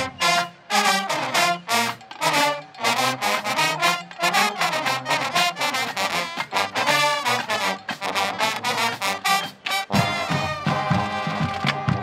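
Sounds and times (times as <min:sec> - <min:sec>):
marching band brass chords: 0:00.0 - 0:12.0.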